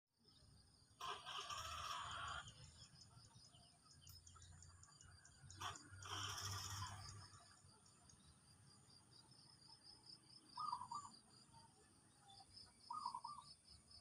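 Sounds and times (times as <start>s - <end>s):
insects chirping rhythmically: 0.3s - 14.0s.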